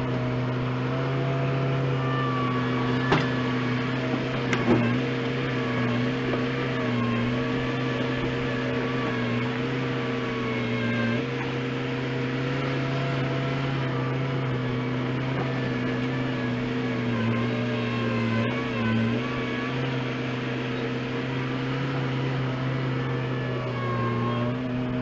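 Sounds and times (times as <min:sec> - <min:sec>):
loader diesel engine running: 0:00.0 - 0:25.0.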